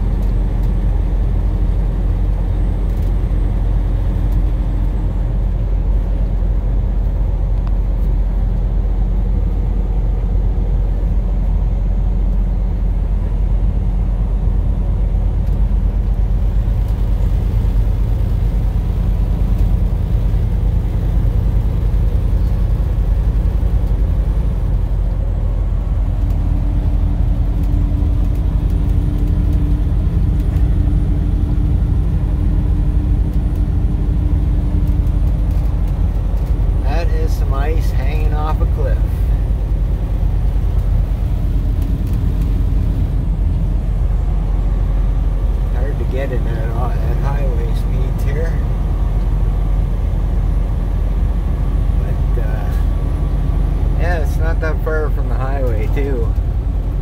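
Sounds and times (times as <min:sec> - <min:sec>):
engine running: 0:00.0 - 0:57.0
tyres on highway: 0:00.0 - 0:57.0
vehicle rumble from inside cab: 0:00.0 - 0:57.0.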